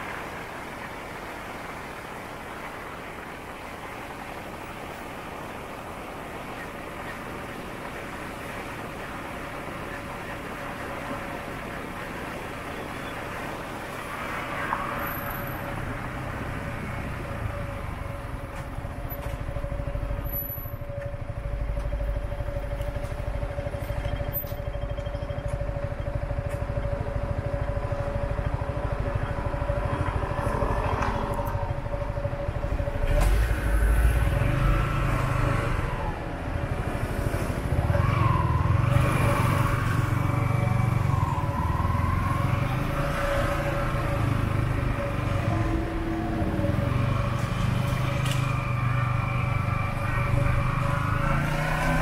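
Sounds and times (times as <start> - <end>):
motorbike engine and road rumble: 0.0 - 52.0.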